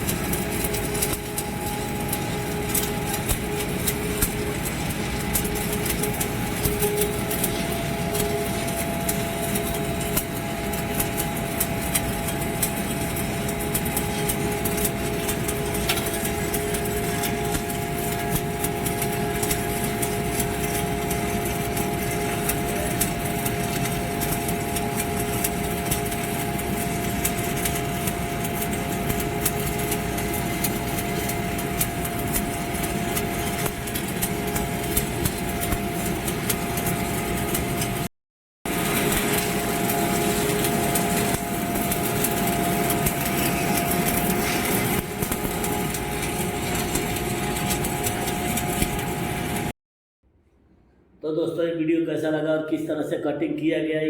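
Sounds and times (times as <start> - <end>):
dense crackling: 0.0 - 38.0, 38.7 - 49.7
machine humming: 0.0 - 38.1, 38.7 - 49.7.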